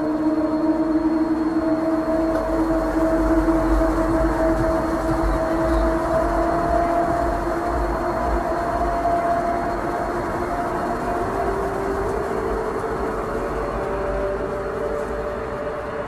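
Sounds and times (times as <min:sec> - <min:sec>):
droning hum: 0:00.0 - 0:16.0.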